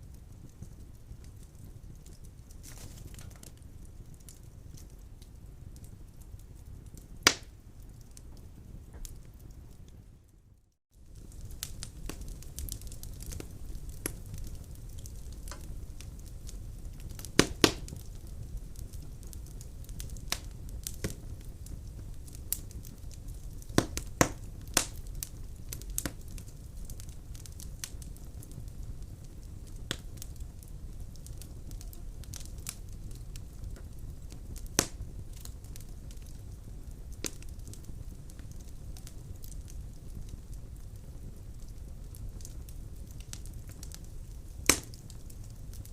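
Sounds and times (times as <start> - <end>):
logs crackling and popping: 0.0 - 10.4, 11.0 - 45.9
low rumble of flames: 0.0 - 45.9.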